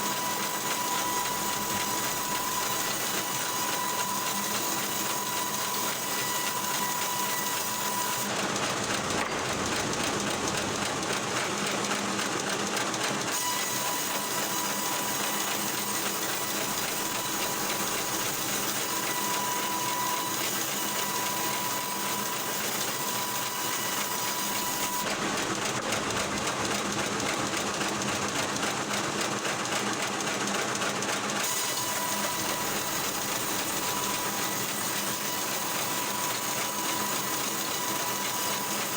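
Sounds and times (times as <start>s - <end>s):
log-cutting machinery clatter: 0.0s - 38.9s.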